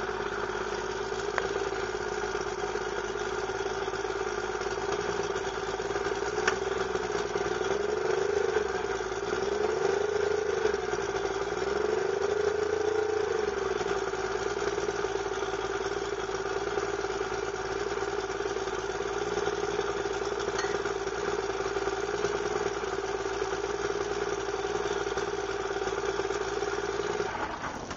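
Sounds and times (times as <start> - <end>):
outboard motor running: 0.0 - 27.9.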